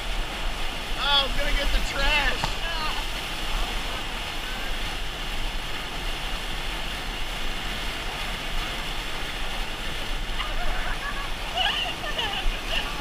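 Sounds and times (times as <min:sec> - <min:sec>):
whitewater rushing and splashing: 0:00.0 - 0:13.0.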